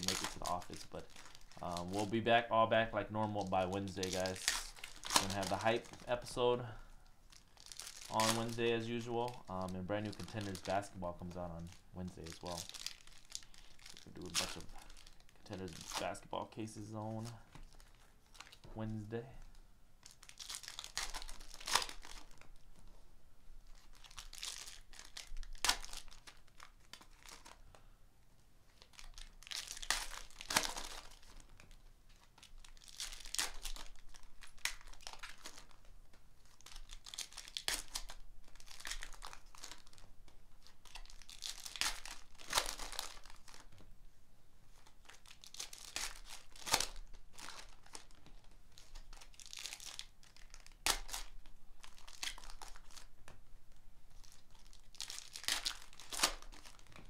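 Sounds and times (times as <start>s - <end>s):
foil wrappers crinkling and tearing: 0.0s - 22.6s, 23.7s - 27.7s, 28.7s - 43.8s, 44.7s - 53.4s, 54.1s - 57.0s.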